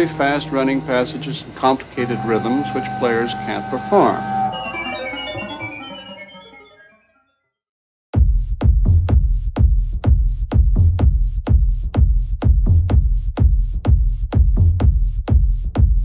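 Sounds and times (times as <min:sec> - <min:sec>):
techno music: 0:00.0 - 0:07.2, 0:08.2 - 0:16.0.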